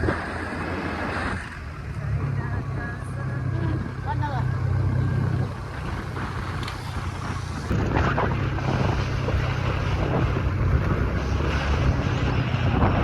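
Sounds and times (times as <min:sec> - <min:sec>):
vehicle engine hum: 0:00.0 - 0:13.0
wind buffeting microphone: 0:00.0 - 0:13.0.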